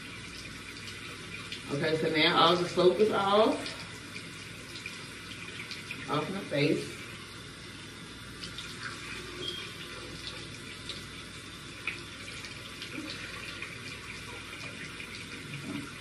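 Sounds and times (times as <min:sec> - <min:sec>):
sink tap running: 0:00.0 - 0:16.0.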